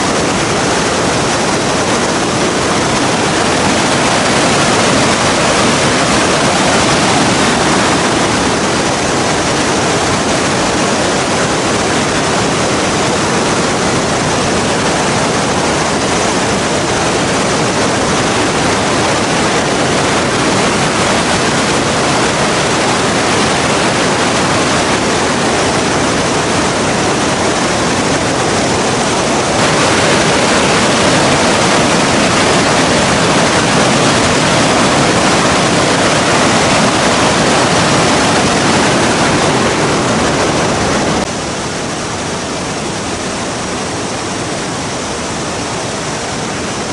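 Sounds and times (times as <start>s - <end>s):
river rapids roaring: 0.0s - 46.9s.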